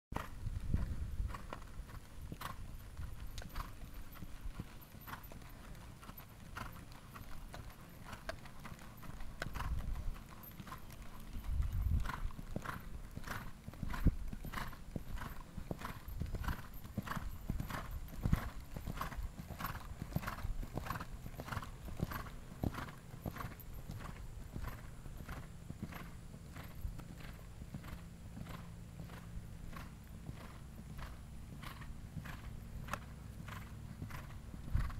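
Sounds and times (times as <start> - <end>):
horse hooves trotting on sand: 0.2 - 34.9.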